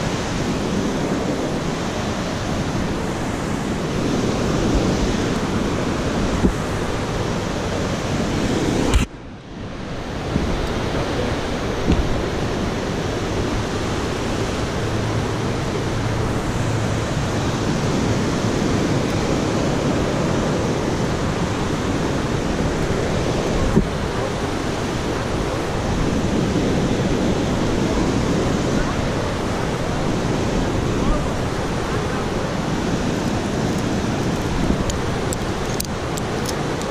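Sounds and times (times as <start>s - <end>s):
mountain creek rushing: 0.0s - 36.9s.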